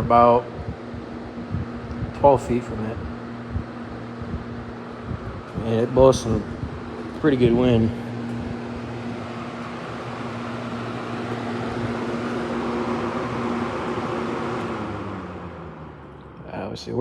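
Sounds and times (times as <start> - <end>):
box fan running: 0.0 - 17.0.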